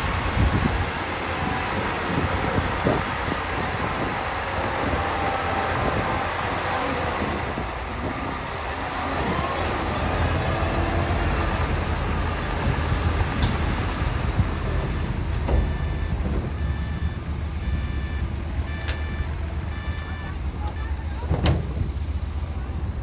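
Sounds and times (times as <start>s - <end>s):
bulldozers rumbling: 0.0s - 23.0s.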